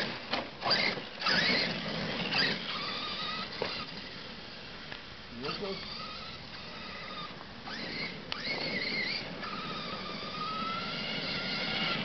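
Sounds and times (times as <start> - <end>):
electric motor whining: 0.0 - 4.2, 5.4 - 12.0.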